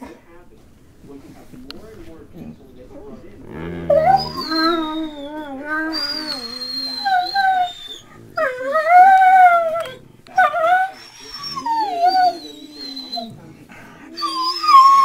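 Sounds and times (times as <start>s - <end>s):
dog howling and whining: 0.5s - 13.4s, 14.0s - 15.0s.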